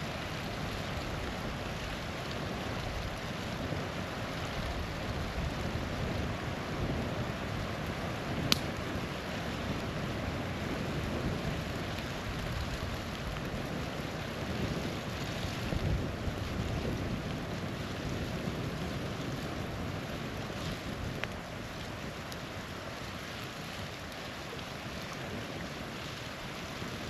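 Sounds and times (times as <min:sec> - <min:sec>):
campfire crackling: 0:00.0 - 0:27.0
small waterfall rushing: 0:00.0 - 0:27.0.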